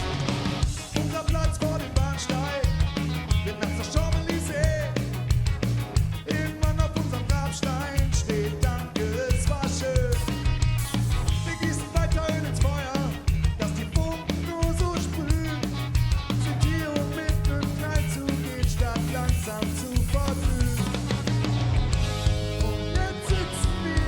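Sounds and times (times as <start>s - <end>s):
ska-punk band playing live: 0.0s - 24.0s.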